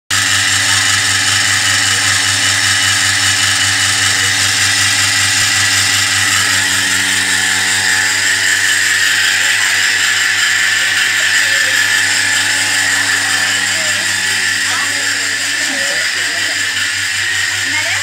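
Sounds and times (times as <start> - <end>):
vacuum pump humming and hissing: 0.2 - 18.0.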